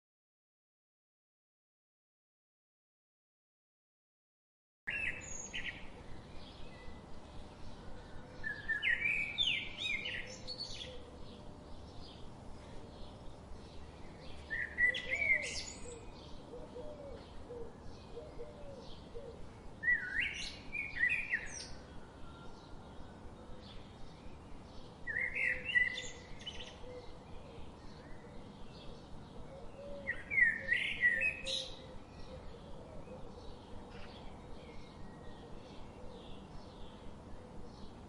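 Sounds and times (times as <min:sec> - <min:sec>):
songbird singing: 0:04.9 - 0:38.0.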